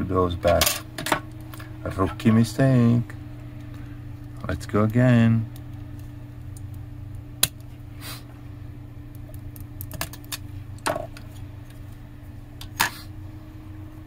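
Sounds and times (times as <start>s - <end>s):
computer fan hum: 0.0s - 14.0s.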